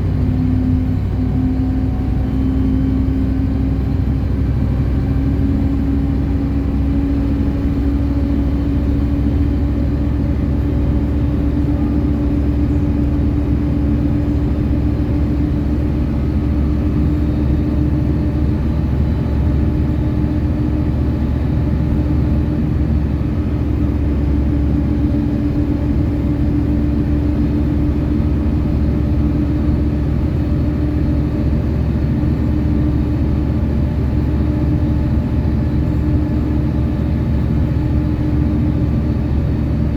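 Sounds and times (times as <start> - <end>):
bus engine and road rumble: 0.0 - 39.9
constant whine: 0.0 - 39.9.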